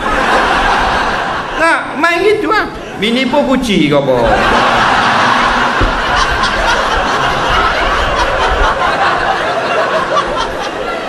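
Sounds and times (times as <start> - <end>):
large crowd laughing: 0.0 - 11.0.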